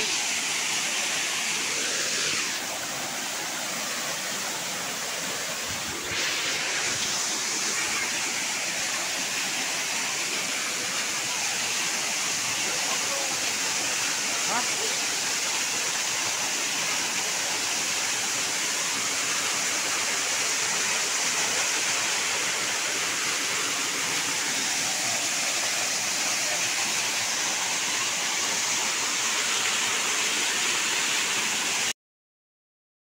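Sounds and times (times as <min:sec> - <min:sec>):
waterfall splashing into pool: 0:00.0 - 0:32.0.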